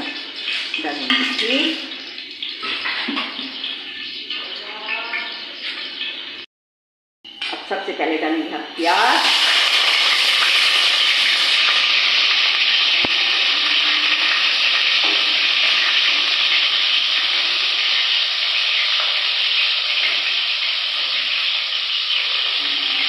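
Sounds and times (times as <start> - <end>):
onions sizzling in hot fat: 0.0 - 5.9, 8.8 - 23.0.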